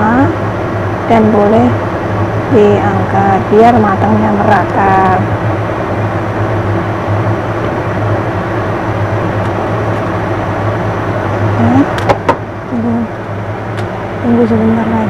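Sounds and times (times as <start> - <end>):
gas burner humming: 0.0 - 15.0.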